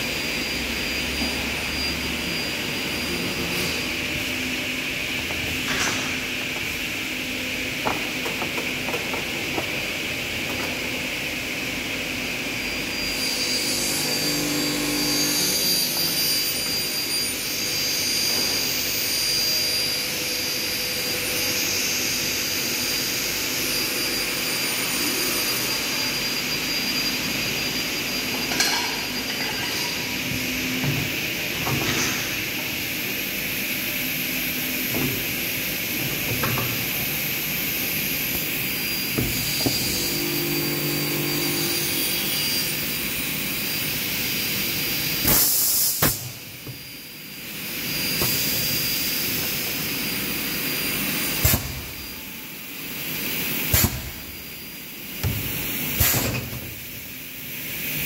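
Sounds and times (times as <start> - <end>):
hiss and hum of workshop machinery: 0.0 - 58.0.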